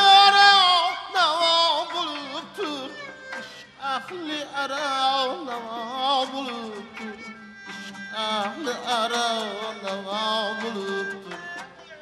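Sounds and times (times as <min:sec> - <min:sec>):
man singing: 0:00.0 - 0:12.0
plucked lute: 0:00.0 - 0:12.0.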